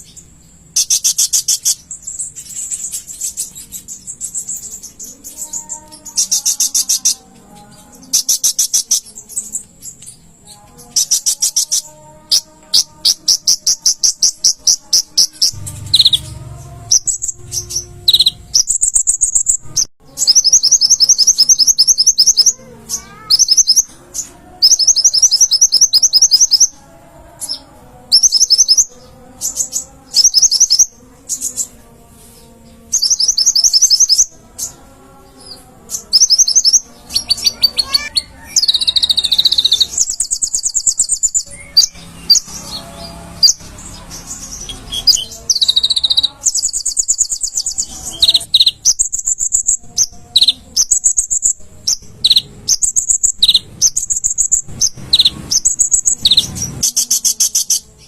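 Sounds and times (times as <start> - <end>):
sunbird trilling: 0.0 - 10.0, 10.8 - 26.8, 35.9 - 57.9.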